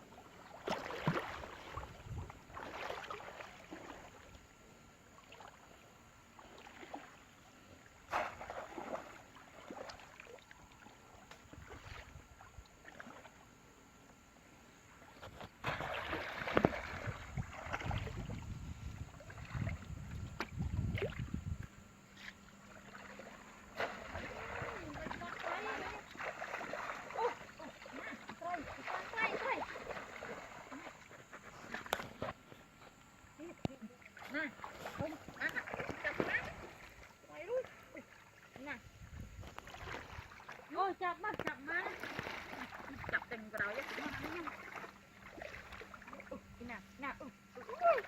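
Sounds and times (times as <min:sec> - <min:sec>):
water splashing and sloshing: 0:00.0 - 0:48.0.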